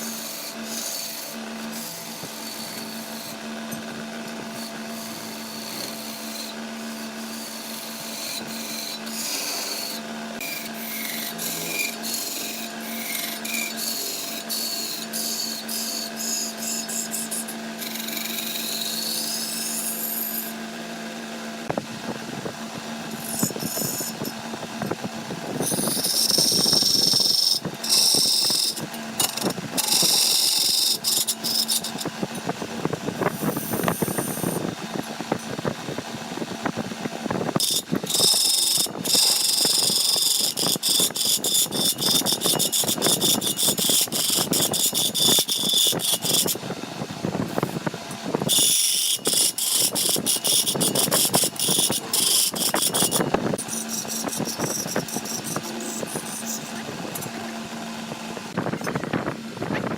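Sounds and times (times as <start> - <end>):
motor hum: 0.0 - 59.9
tool cutting wood: 0.0 - 59.9.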